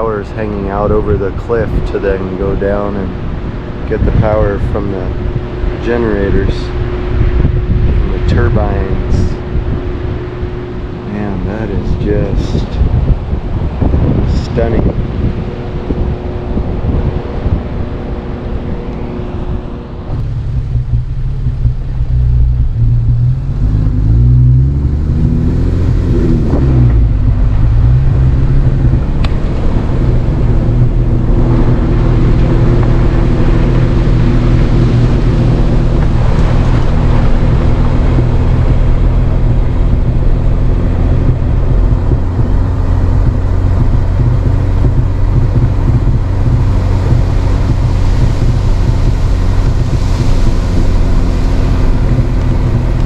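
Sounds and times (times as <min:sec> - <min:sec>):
car engine accelerating: 0:00.0 - 0:53.0
road noise: 0:00.0 - 0:53.0.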